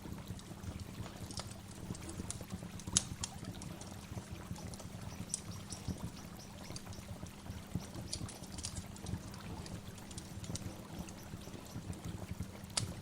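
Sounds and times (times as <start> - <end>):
water splashes and drips: 0.0 - 13.0.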